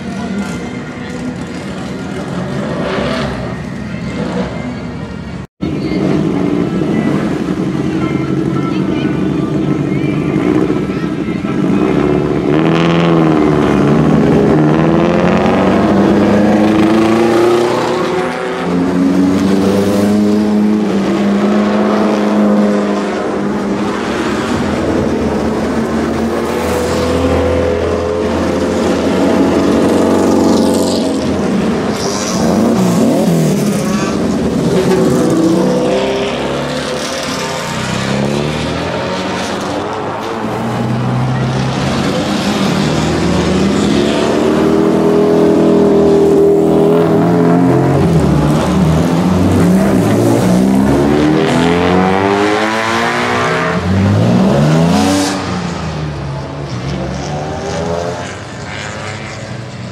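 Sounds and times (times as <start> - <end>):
race cars driving slowly past: 0.0 - 59.9.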